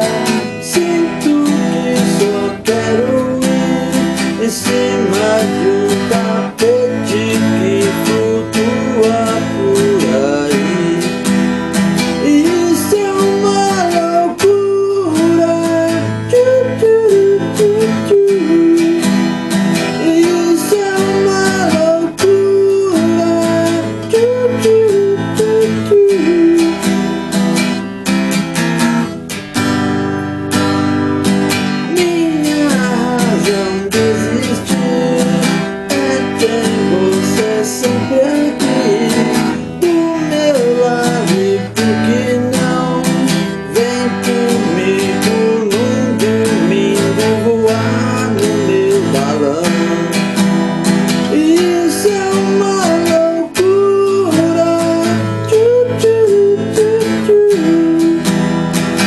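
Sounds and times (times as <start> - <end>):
person singing: 0.0 - 29.2, 30.6 - 59.0
strummed acoustic guitar: 0.0 - 59.0.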